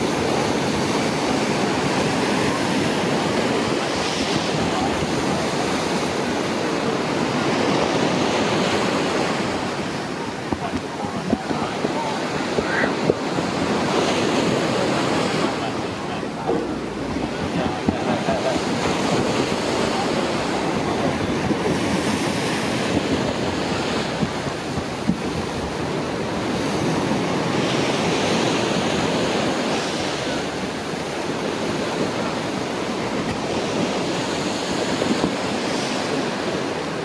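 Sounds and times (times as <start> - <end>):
moving water: 0.0 - 37.0
wind buffeting microphone: 0.0 - 37.0.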